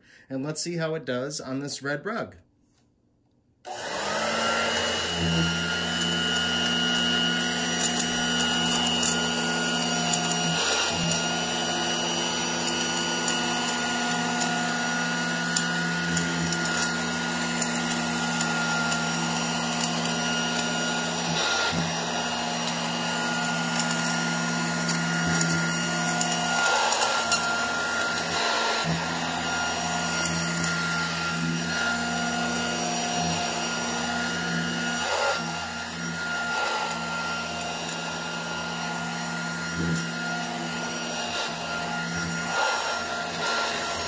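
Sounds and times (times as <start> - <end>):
hand vacuum whining hum: 3.6 - 44.0.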